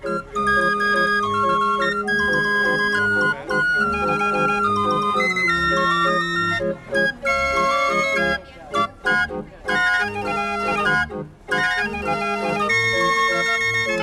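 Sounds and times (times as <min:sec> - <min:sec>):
street organ melody: 0:00.0 - 0:14.0.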